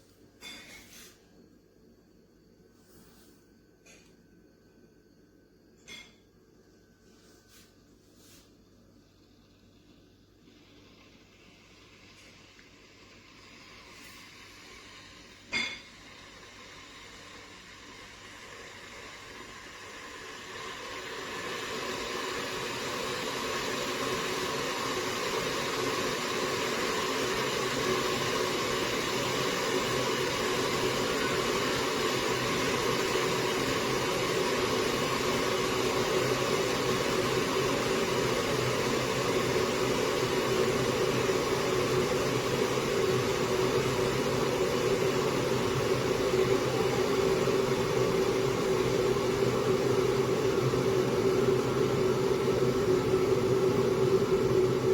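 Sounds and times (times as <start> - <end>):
electric kettle hissing: 0.0 - 1.5, 5.4 - 54.9.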